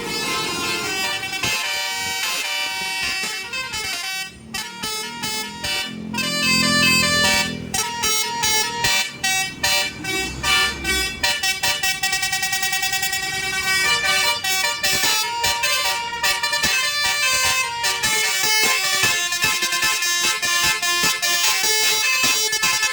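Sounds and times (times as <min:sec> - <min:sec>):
musical air horn playing notes: 0:00.0 - 0:22.9.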